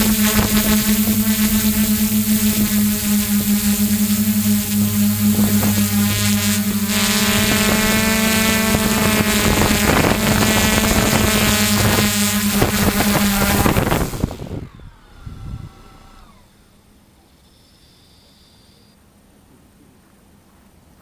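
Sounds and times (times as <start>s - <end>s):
drone motors humming and whining: 0.0s - 19.0s.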